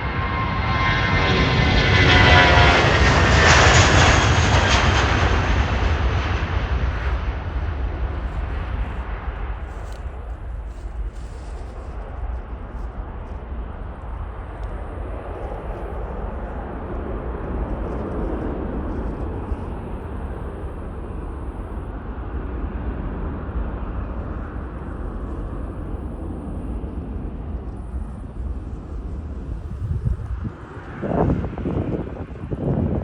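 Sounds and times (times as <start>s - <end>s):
jet airliner rumble: 0.0s - 33.0s.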